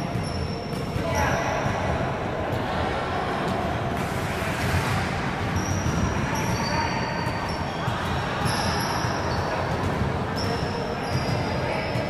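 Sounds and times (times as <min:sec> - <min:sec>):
basketball bouncing on court: 0:00.0 - 0:12.0.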